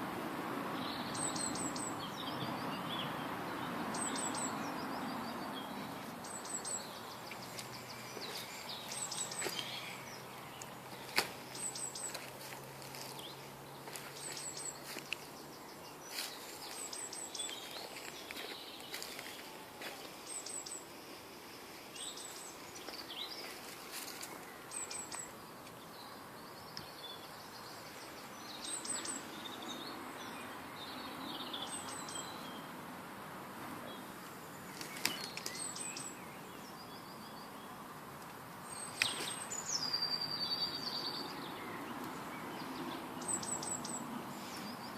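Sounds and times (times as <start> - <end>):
birds chirping and warbling: 0.7 - 44.9.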